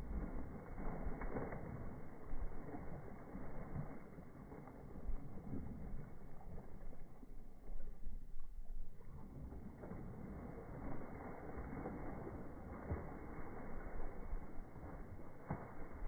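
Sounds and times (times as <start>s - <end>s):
dog splashing through water: 0.0s - 16.0s.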